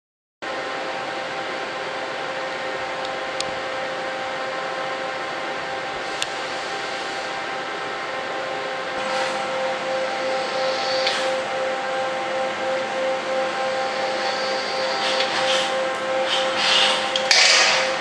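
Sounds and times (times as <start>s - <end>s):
machine hum with pitched tone: 0.4s - 18.0s.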